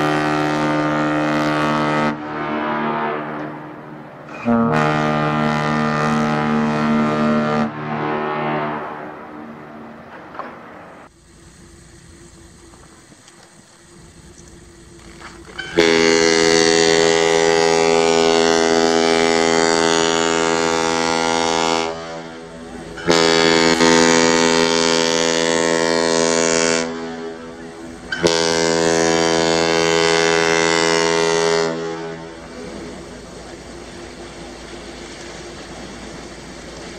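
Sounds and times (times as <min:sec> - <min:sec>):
ship's horn blasts: 0:00.0 - 0:11.1, 0:14.8 - 0:36.9.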